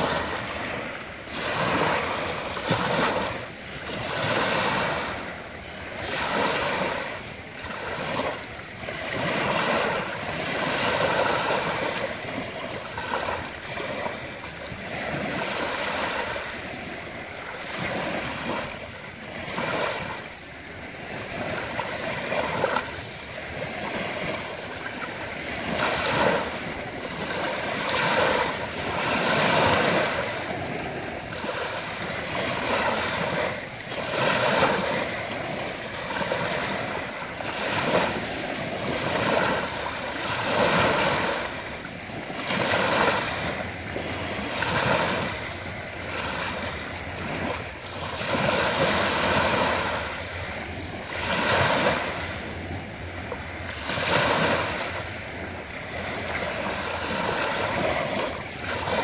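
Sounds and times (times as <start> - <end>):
small waves washing up pebble beach: 0.0 - 59.0.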